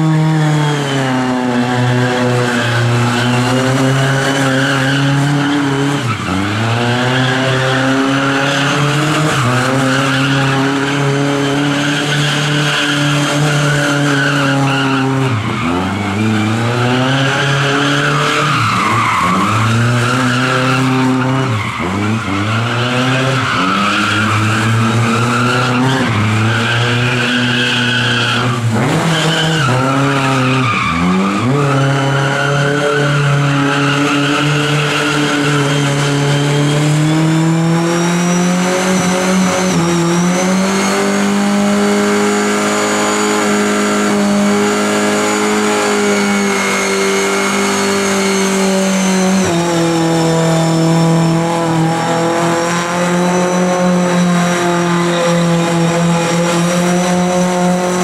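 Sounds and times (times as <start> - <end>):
car engine at high revs: 0.0 - 58.0
tyres spinning and squealing: 0.5 - 58.0.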